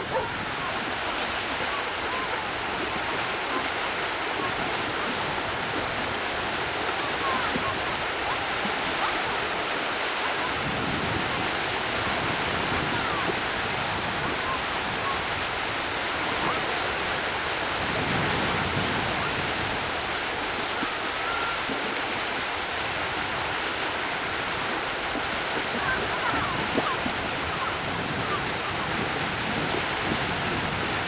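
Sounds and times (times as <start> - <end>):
small waves breaking: 0.0 - 31.0.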